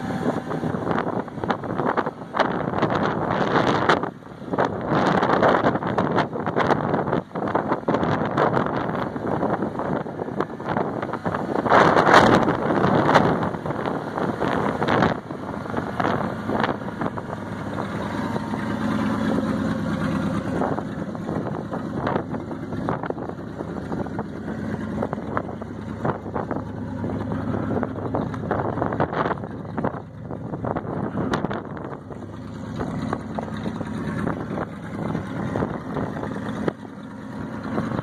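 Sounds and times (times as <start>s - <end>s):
truck engine idling: 0.0s - 38.0s
wind buffeting microphone: 0.0s - 38.0s.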